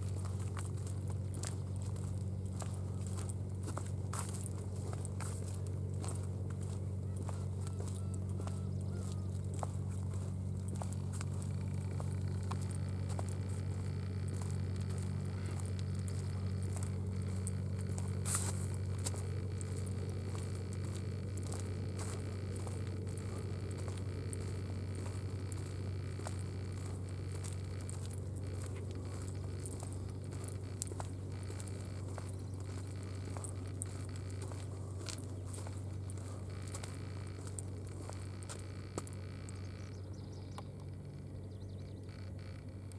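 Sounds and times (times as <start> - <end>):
small clicks and crackles: 0.0 - 42.9
steady low hum: 0.0 - 42.9.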